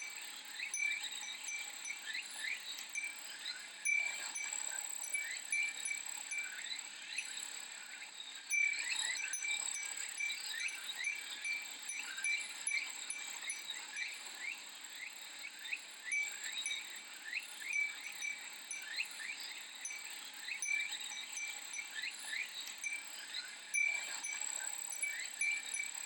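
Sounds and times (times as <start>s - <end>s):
wind chime tinkling: 0.0s - 7.4s, 8.5s - 14.6s, 16.0s - 26.0s
cicadas droning: 0.0s - 26.0s.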